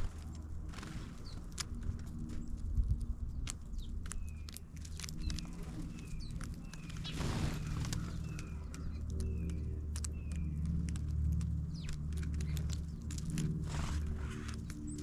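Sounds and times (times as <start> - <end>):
small birds chipping: 0.0 - 15.0.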